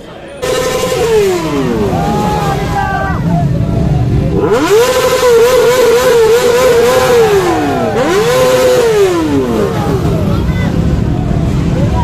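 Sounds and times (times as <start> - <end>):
motorbike engine revving: 0.4 - 12.0.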